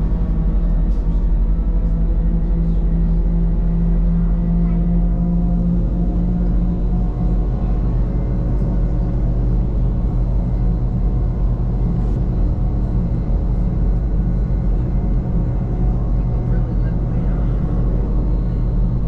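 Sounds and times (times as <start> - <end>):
steady tonal hum: 0.0 - 19.0
train rumbling: 0.0 - 19.0.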